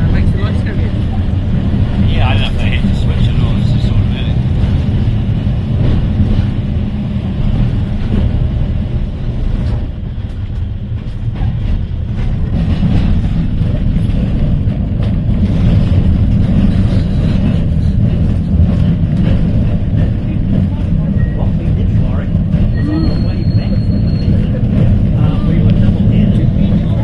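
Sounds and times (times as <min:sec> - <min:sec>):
tram wheels rumbling: 0:00.0 - 0:27.0.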